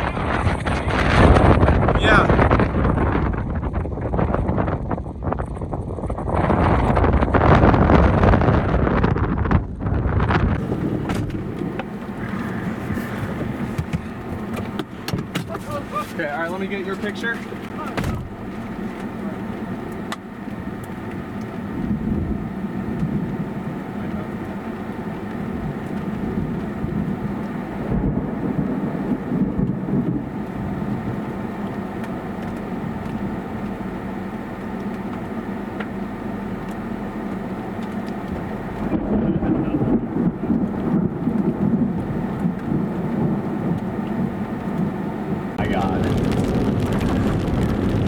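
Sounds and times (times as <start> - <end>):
low rumbling storm: 0.0 - 48.0.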